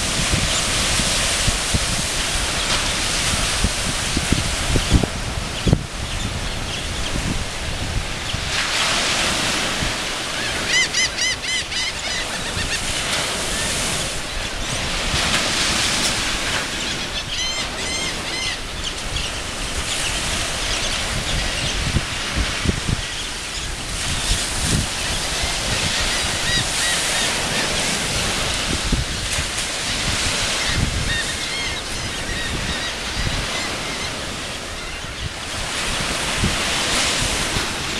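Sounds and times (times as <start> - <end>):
sea surf washing: 0.0 - 37.9.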